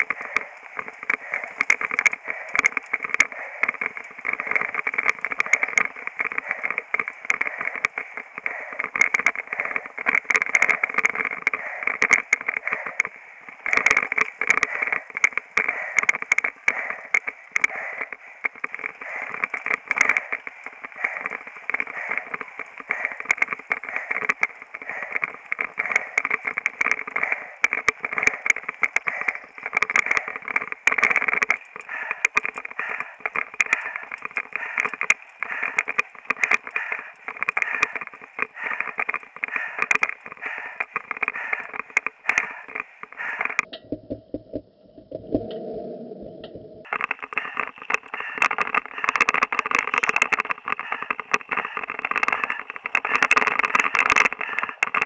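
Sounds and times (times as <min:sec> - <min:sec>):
bike tyres clicking on rough ground: 0:00.0 - 0:45.7, 0:46.4 - 0:55.0.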